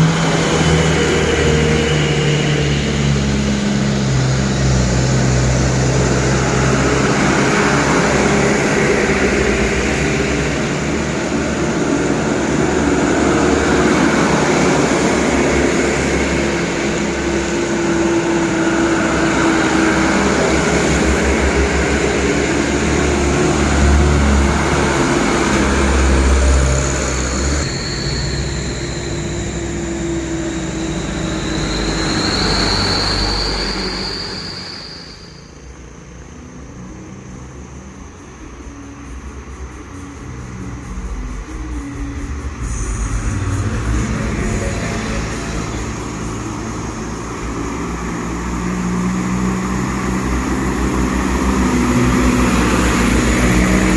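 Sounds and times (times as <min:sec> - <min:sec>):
truck engines running: 0:00.0 - 0:53.9.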